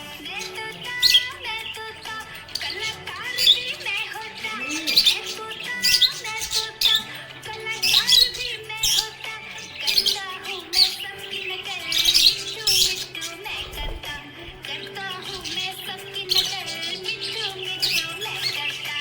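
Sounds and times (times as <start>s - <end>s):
background music: 0.0s - 19.0s
budgerigars chirping: 0.0s - 19.0s.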